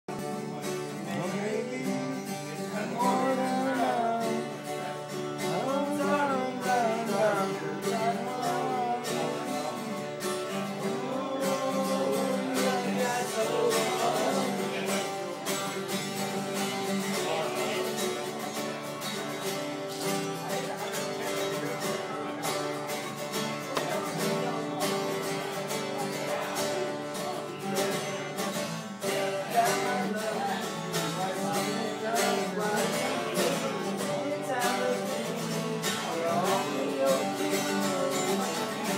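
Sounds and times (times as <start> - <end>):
acoustic guitars strummed: 0.1 - 38.9
man singing: 0.1 - 38.9.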